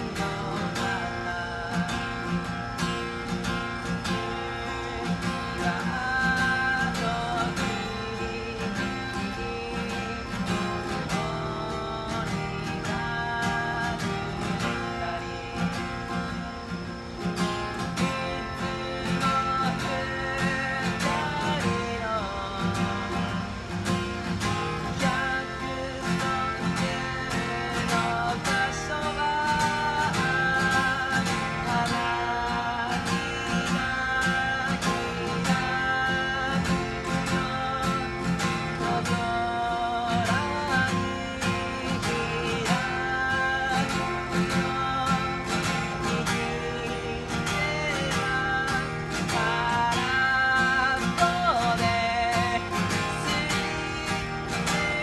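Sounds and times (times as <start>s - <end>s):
acoustic guitar strumming: 0.0s - 55.0s
man singing: 0.0s - 55.0s.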